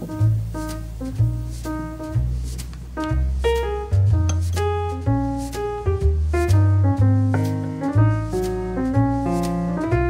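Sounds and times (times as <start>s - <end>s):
jazz music with piano and bass: 0.0s - 10.0s.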